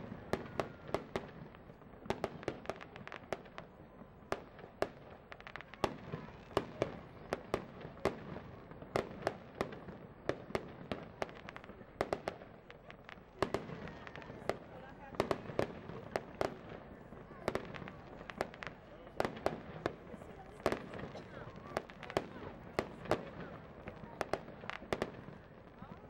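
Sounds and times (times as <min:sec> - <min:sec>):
fireworks bangs and pops: 0:00.0 - 0:26.0.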